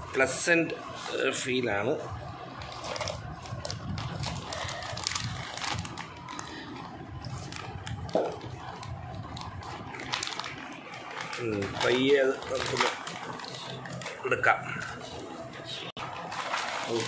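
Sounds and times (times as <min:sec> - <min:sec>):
plastic bag crinkling: 0:02.5 - 0:17.0.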